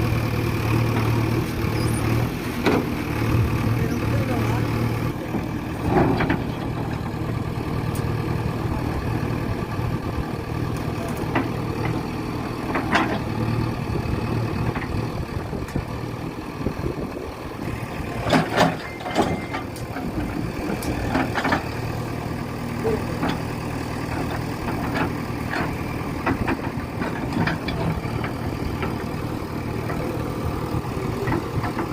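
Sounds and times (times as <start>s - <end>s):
diesel engine running at low revs: 0.0s - 31.9s.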